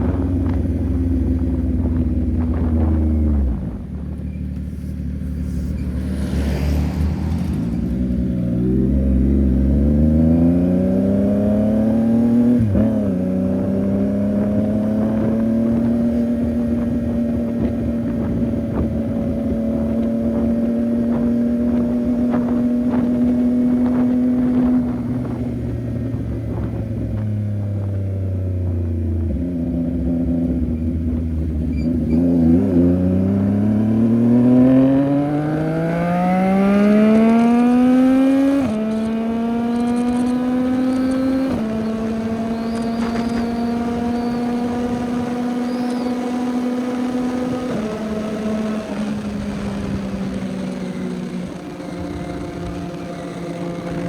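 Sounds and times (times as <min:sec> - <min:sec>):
motorcycle engine revving and shifting: 0:00.0 - 0:54.0.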